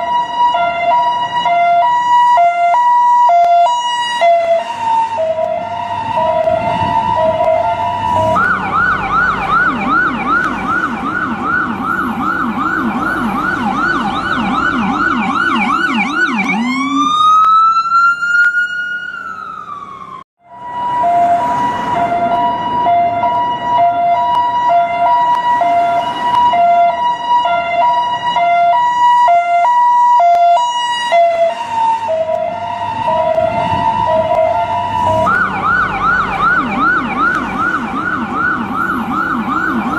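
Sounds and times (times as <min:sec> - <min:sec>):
ambulance siren: 0:00.0 - 0:39.9.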